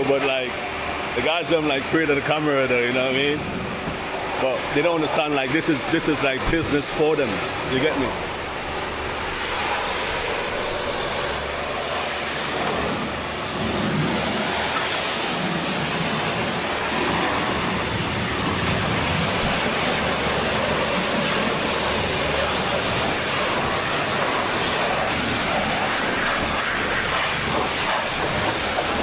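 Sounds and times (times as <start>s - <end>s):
pressure washer spraying water: 0.0s - 29.0s.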